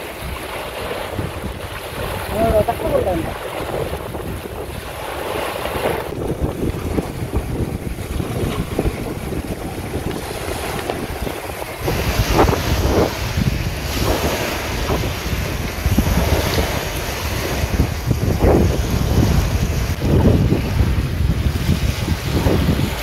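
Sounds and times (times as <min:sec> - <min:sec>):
waves washing over pebbles: 0:00.0 - 0:23.0
wind buffeting microphone: 0:00.0 - 0:23.0.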